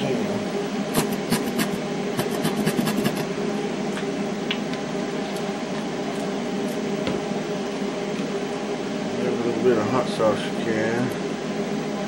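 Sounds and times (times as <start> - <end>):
kitchen exhaust fan humming: 0.0 - 12.0.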